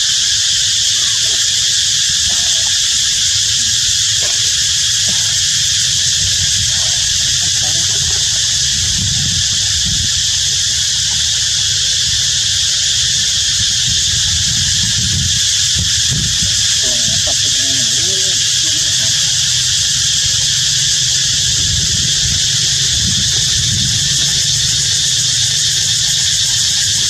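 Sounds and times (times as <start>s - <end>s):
faint monkey calls: 0.0s - 27.0s
high-pitched insect chorus: 0.0s - 27.0s
wind rumble on microphone: 0.0s - 27.0s.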